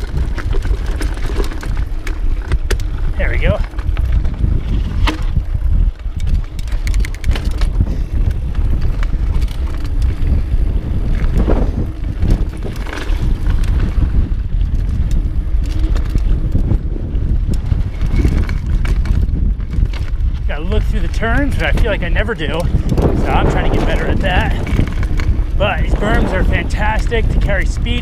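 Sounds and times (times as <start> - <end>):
bike rattling and knocking: 0.0 - 28.0
bike tyres rolling over rock: 0.0 - 28.0
wind noise on microphone: 0.0 - 28.0.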